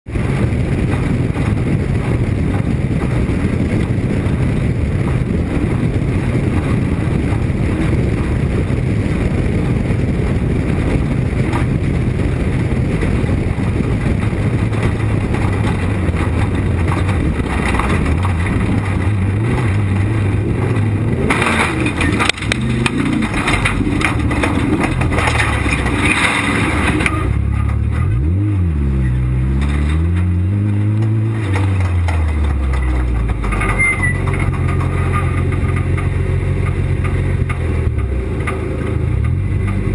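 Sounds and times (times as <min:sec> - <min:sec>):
race vehicle engine running hard: 0:00.0 - 0:39.9
rattling over rough terrain: 0:00.0 - 0:39.9.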